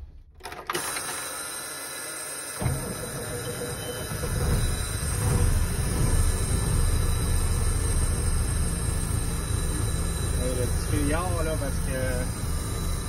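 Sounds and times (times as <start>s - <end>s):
truck engine cranking and running: 0.0s - 13.0s.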